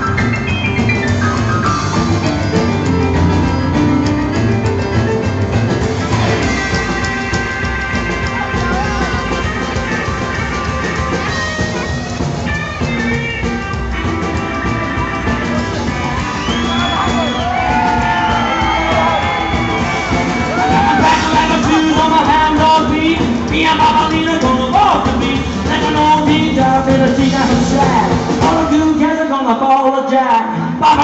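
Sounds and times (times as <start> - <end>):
electric guitar: 0.0 - 29.0
sliding melodic lines: 0.0 - 29.0
drum kit: 0.0 - 29.6
rockabilly band playing: 0.0 - 31.0.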